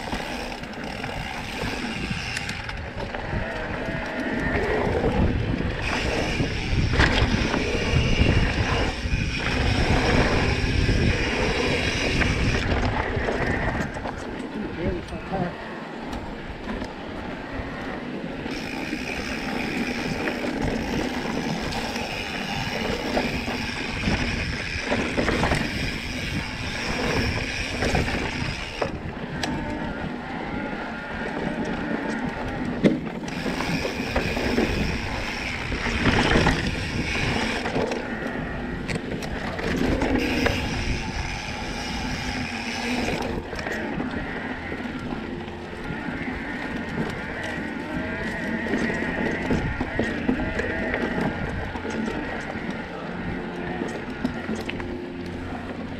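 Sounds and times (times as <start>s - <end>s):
bike clicks and rattles: 0.0s - 15.2s, 18.0s - 30.2s, 30.8s - 55.9s
tyre and wind noise: 0.0s - 55.9s.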